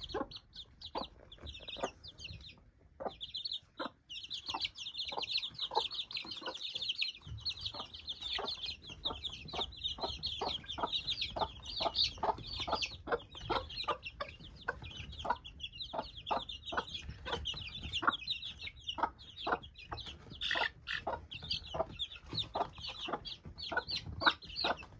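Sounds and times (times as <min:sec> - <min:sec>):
baby chicks peeping: 0:00.0 - 0:24.9
hen clucking softly: 0:00.0 - 0:24.9.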